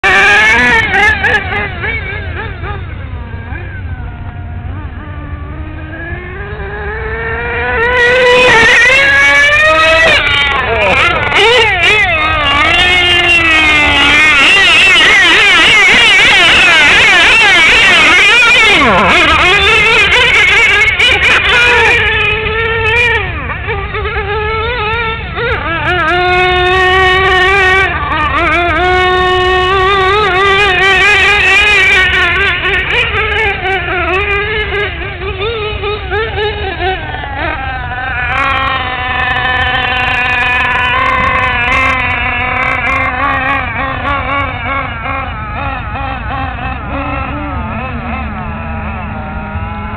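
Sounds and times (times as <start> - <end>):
rc car motor buzzing: 0.0 - 49.9
small engine revving: 0.0 - 49.9.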